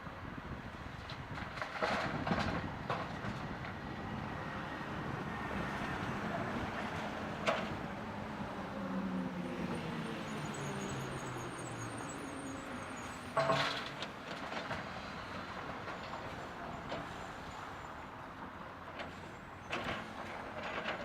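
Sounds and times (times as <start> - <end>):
heavy construction machinery running: 0.7 - 21.0.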